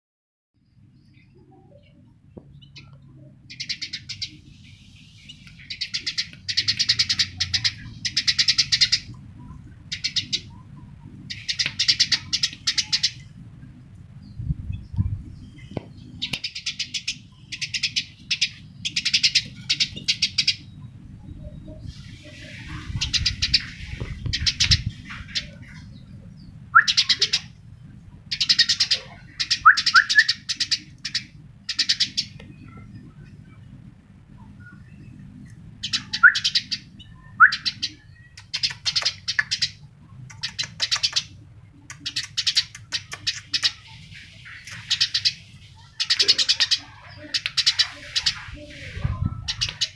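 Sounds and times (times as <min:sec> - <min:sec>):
bird chattering trills: 0:05.5 - 0:13.4, 0:15.5 - 0:33.7, 0:34.3 - 0:49.9.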